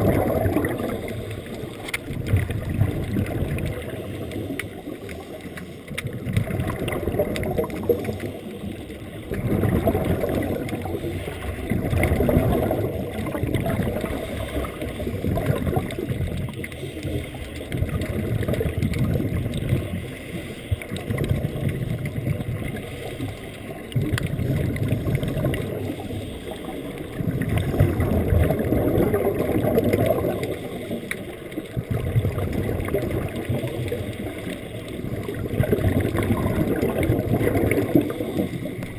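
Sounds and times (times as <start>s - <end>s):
underwater air bubbles gurgling: 0.0s - 38.9s.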